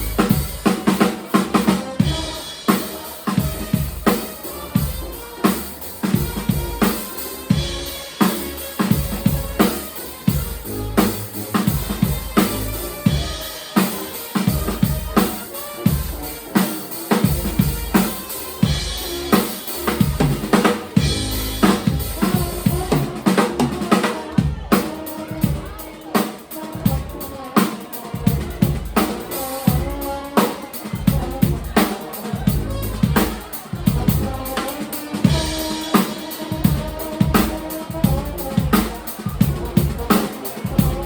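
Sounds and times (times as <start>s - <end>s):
drum kit beating: 0.0s - 41.0s
live band playing: 0.0s - 41.0s.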